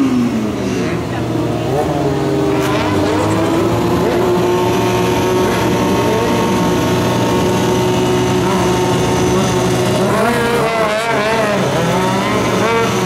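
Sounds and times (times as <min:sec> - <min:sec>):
motorcycle engine revving high: 0:00.0 - 0:13.0.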